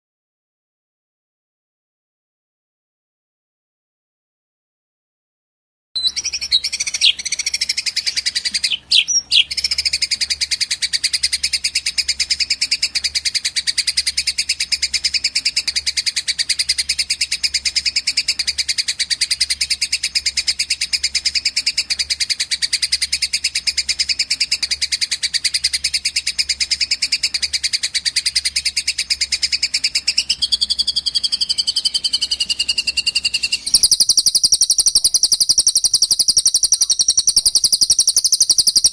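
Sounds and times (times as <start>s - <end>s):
bright bird song: 6.0s - 38.9s
rapid high bird trill: 6.0s - 38.9s.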